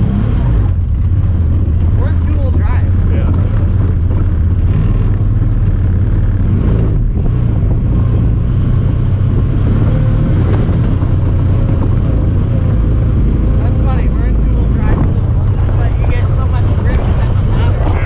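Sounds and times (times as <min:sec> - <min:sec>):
engine running while driving: 0:00.0 - 0:18.0.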